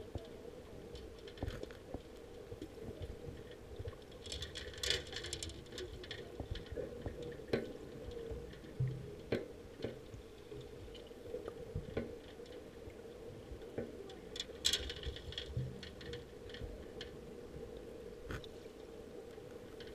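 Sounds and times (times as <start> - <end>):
faint underwater hum: 0.0 - 19.9
light clicks and ticks: 0.0 - 19.9.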